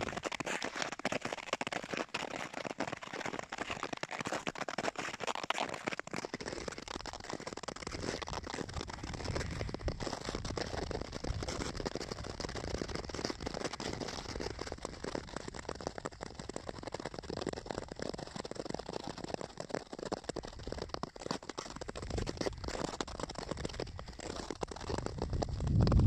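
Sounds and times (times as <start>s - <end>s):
skate blades scraping on ice: 0.0s - 26.0s.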